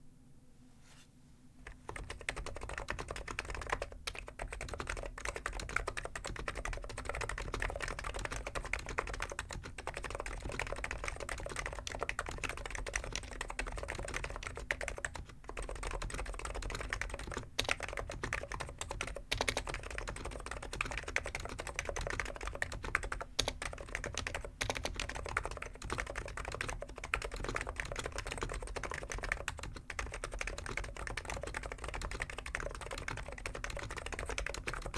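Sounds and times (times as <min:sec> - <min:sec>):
fast keyboard typing: 0:01.6 - 0:34.9.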